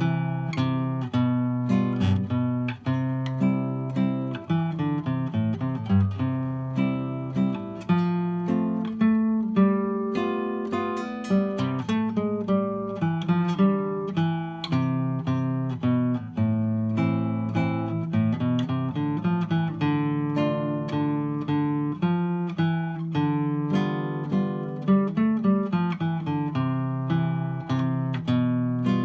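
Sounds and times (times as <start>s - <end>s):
solo classical guitar: 0.0s - 29.0s.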